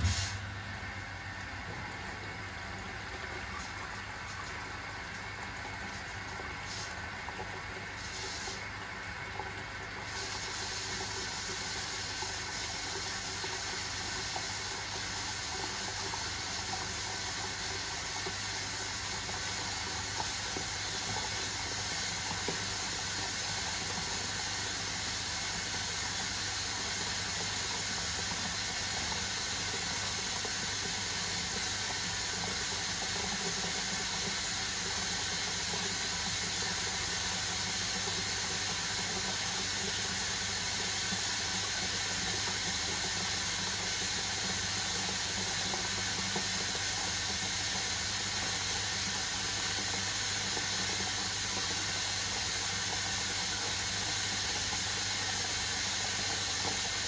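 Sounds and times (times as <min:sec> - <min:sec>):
water rushing into washing machine: 0:00.0 - 0:57.0.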